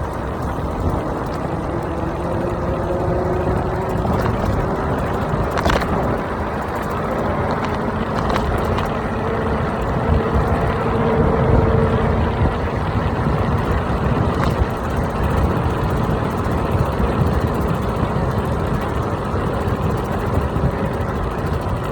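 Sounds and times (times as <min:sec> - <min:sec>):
wind rushing over microphone: 0:00.0 - 0:21.9.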